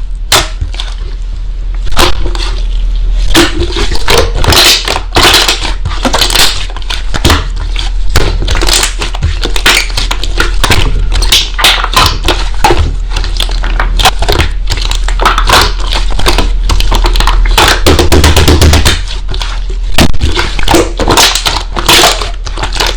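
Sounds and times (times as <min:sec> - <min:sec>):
slime crackling and popping: 0:01.8 - 0:22.9.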